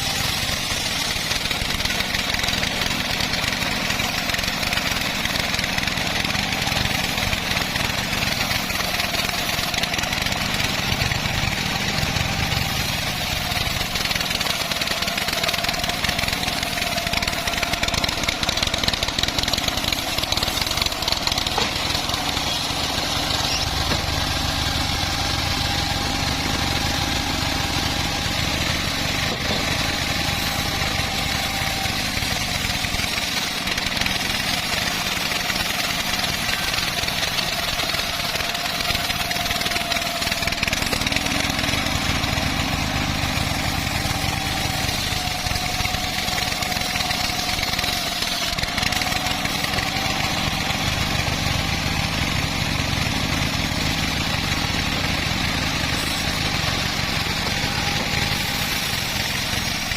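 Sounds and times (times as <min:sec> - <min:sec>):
bandsaw sawmill sawing log: 0:00.0 - 0:59.9.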